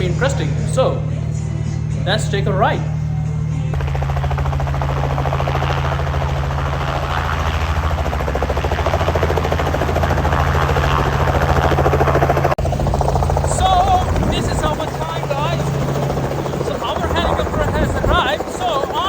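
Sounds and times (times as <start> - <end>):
helicopter rotor chop: 0.0 - 19.0
low engine drone: 0.0 - 19.0.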